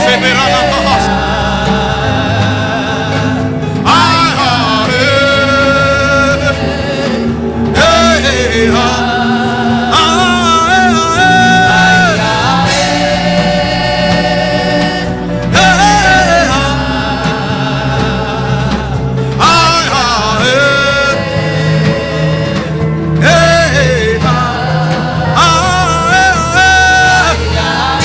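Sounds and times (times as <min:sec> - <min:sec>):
gospel singing: 0:00.0 - 0:28.0
sustained chords and bass: 0:00.0 - 0:28.0.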